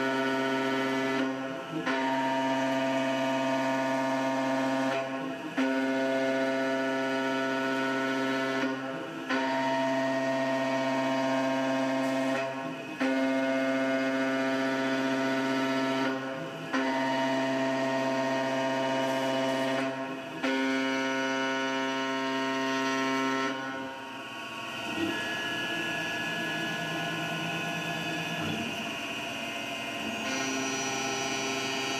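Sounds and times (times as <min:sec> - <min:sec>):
end mill cutting metal whine: 0:00.0 - 0:31.9.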